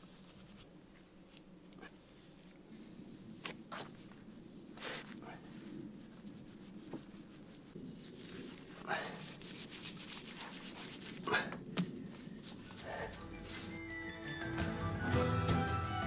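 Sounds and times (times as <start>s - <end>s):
mortar being scraped and spread: 0.0s - 13.8s.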